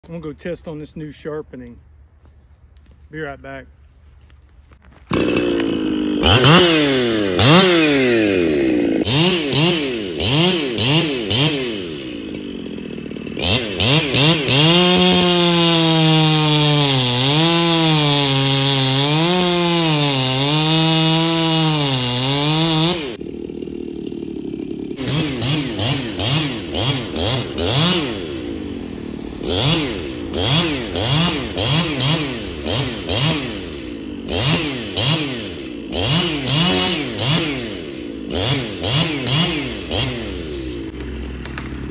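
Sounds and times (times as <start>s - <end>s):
chainsaw revving and cutting: 5.0s - 41.9s.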